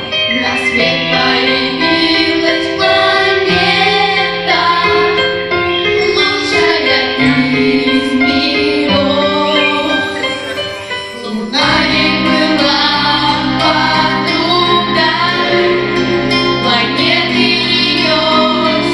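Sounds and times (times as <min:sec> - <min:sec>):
vocal group singing: 0:00.0 - 0:18.9.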